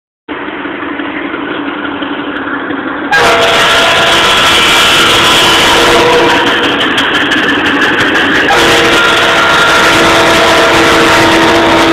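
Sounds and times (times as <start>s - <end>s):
diesel locomotive engine: 0.3s - 11.9s.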